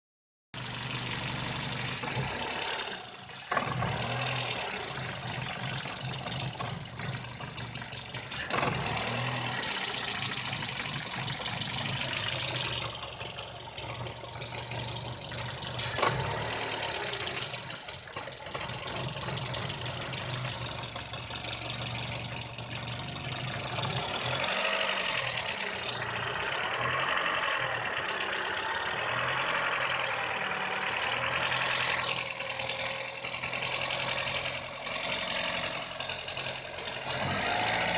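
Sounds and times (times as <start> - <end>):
car engine idling roughly: 0.6 - 37.9
sharp engine ticks: 4.0 - 37.5.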